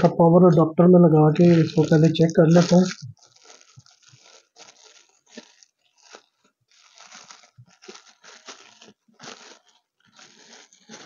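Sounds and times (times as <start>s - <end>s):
plastic packaging crinkling: 1.3s - 11.0s.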